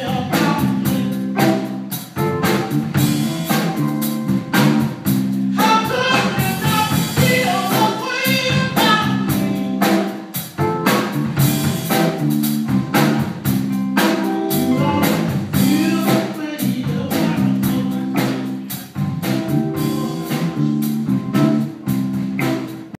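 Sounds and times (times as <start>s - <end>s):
blues band playing: 0.0s - 22.9s
drum kit beat: 0.0s - 22.9s.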